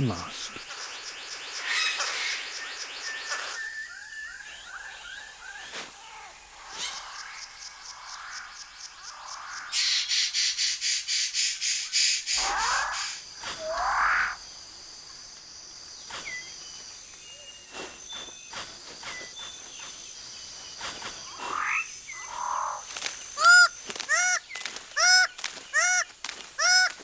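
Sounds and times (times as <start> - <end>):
high insect hum: 0.0 - 27.0.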